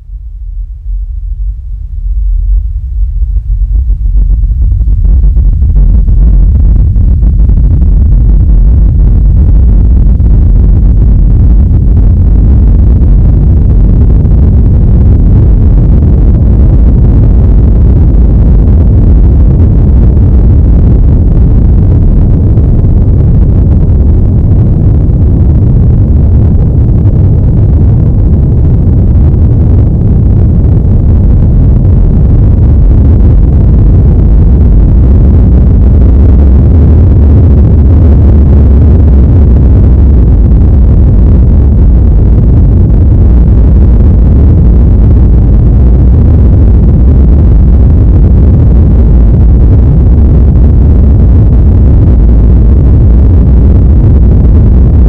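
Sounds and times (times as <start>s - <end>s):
deep earthquake rumble: 0.0s - 55.0s.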